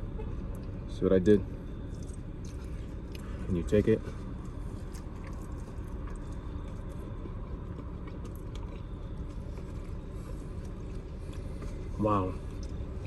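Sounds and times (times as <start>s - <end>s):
person chewing food: 1.8s - 13.0s.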